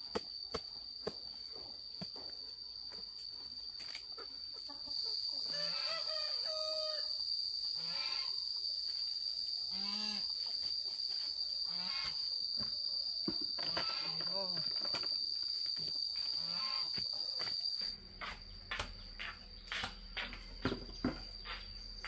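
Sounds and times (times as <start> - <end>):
high-pitched insect drone: 1.4 - 22.0.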